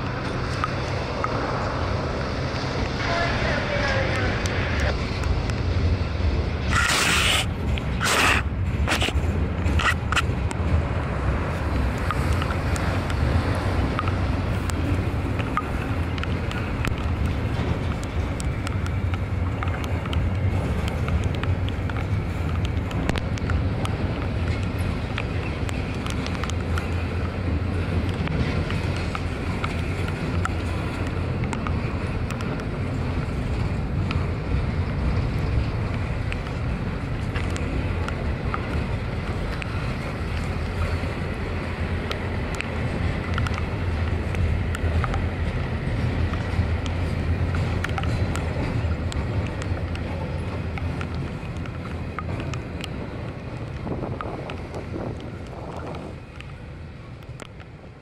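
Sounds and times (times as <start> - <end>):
sharp clicks of train wheels: 0.0 - 58.0
steel wheels rumbling on rail: 0.0 - 58.0.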